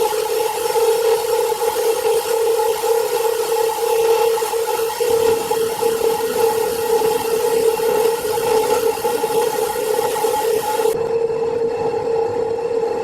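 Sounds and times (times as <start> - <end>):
saw cutting wood: 0.0 - 11.0
sawmill saw humming: 0.0 - 11.0.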